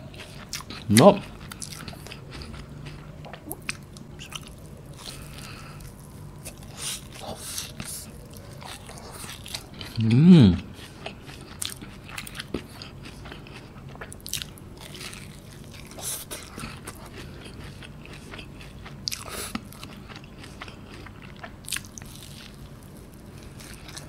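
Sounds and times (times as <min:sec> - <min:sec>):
wet chewing mouth sounds: 0:00.0 - 0:24.0.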